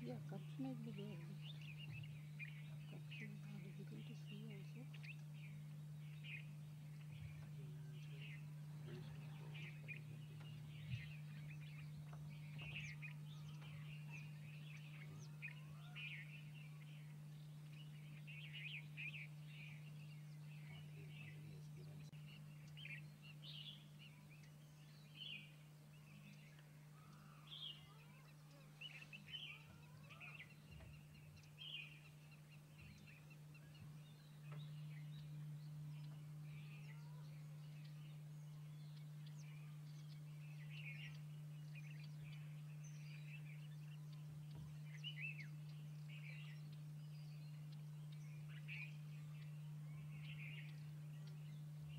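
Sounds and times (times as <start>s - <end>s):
small birds chirping: 0.0s - 51.9s
steady low hum: 0.0s - 51.9s.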